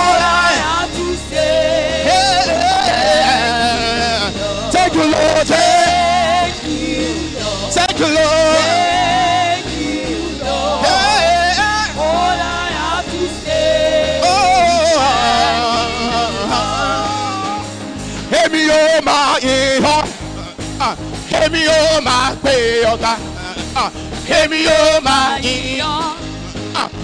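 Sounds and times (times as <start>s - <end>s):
band accompaniment: 0.0s - 27.0s
gospel song sung live: 0.0s - 27.0s.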